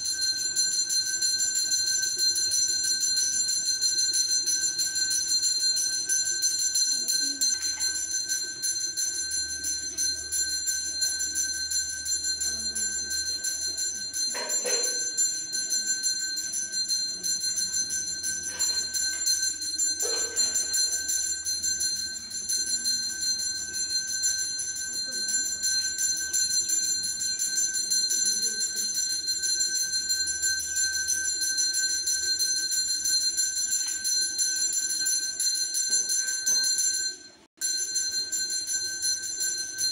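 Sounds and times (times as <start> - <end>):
temple bell ringing rapidly: 0.0 - 39.9.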